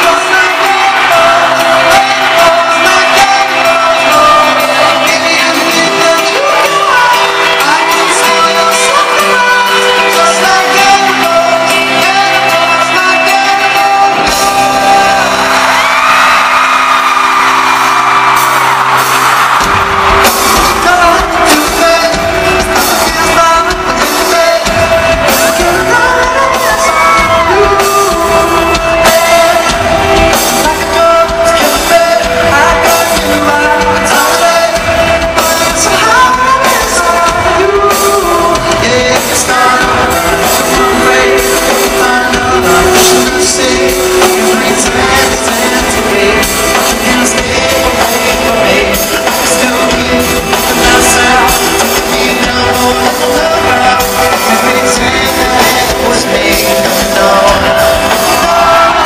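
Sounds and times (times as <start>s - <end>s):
male singer singing: 0.0s - 17.2s, 19.9s - 59.0s
live pop-rock band: 0.0s - 59.0s.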